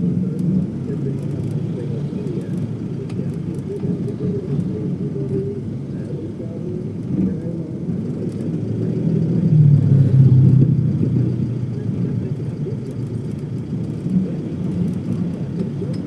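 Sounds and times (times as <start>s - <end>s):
faint voices: 0.0s - 16.0s
vehicle low rumble: 0.0s - 16.0s.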